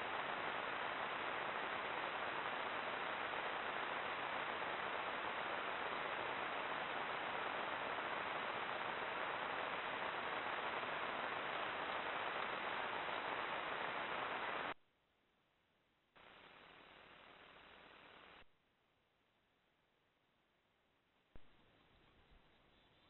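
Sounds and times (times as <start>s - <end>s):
steady microphone hiss: 0.0s - 14.8s, 15.7s - 23.0s.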